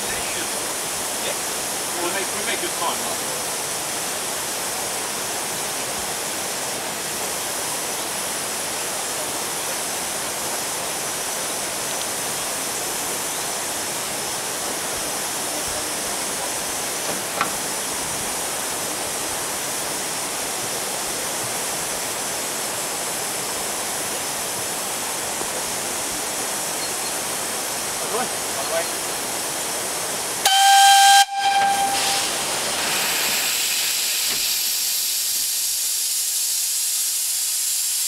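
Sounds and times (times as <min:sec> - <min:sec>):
steam hissing from locomotive: 0:00.0 - 0:38.0.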